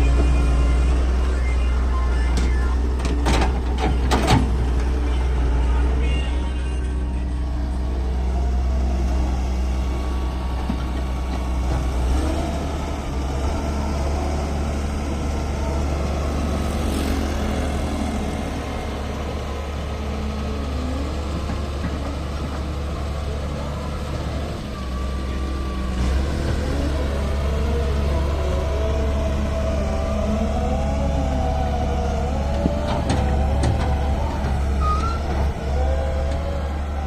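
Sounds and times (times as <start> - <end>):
excavator diesel engine: 0.0 - 37.0.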